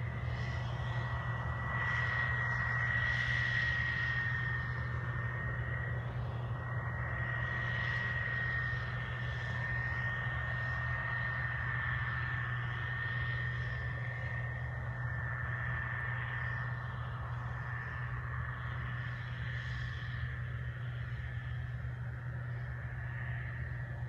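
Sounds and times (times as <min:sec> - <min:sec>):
distant engine drone: 0:00.0 - 0:24.0
high-pitched whine: 0:00.0 - 0:24.0.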